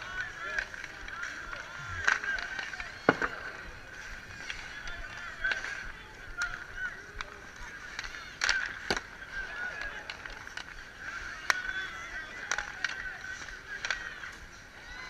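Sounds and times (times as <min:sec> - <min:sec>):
hockey sticks and puck clacking: 0:00.0 - 0:15.0
voices calling out: 0:00.0 - 0:15.0.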